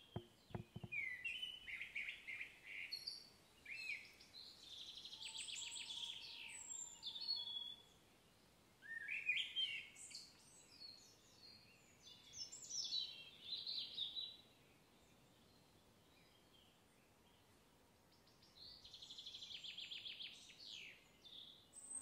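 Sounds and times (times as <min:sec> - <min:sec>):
faint outdoor background noise: 0:00.0 - 0:22.0
songbird singing: 0:00.0 - 0:22.0.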